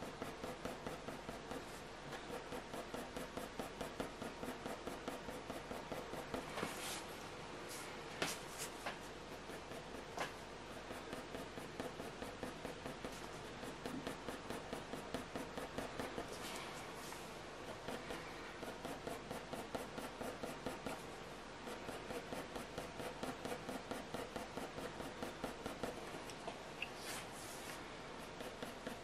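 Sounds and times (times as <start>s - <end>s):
pencil scratching on paper: 0.0s - 29.0s.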